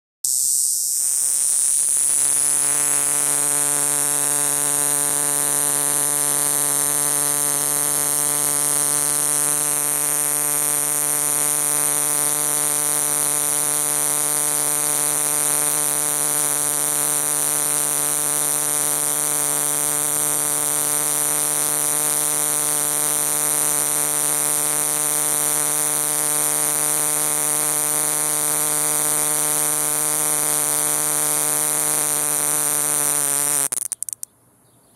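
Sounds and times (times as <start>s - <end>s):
cicada buzzing: 0.2s - 34.3s.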